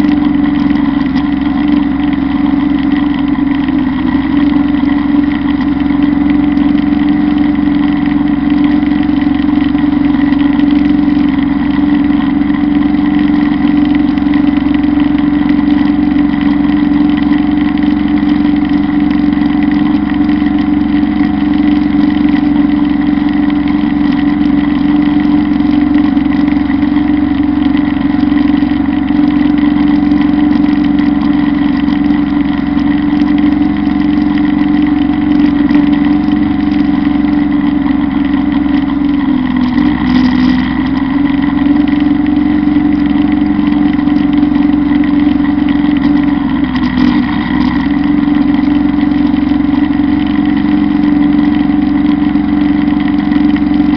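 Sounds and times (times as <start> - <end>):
mower cutting tall grass: 0.0 - 53.9
tractor diesel engine running: 0.0 - 53.9.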